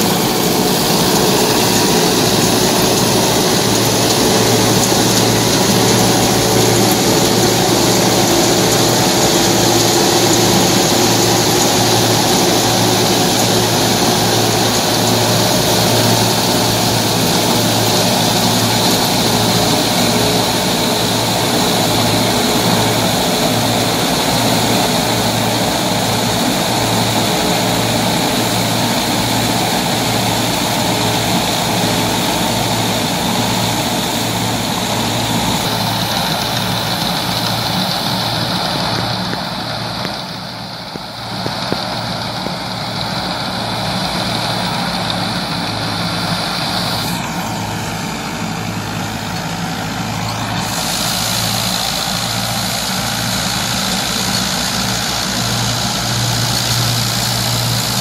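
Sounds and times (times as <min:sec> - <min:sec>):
straw chopper noise: 0:00.0 - 0:58.0
tractor engine hum: 0:00.0 - 0:58.0.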